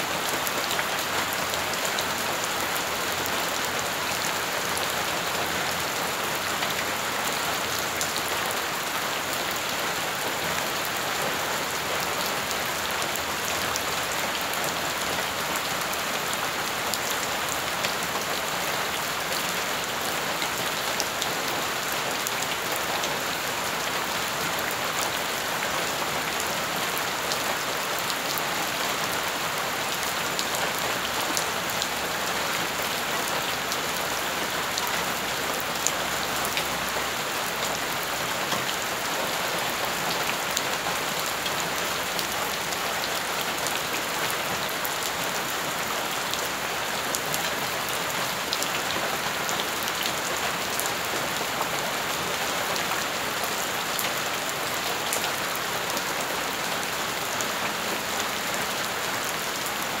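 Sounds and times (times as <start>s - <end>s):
rain falling on wet ground: 0.0s - 60.0s.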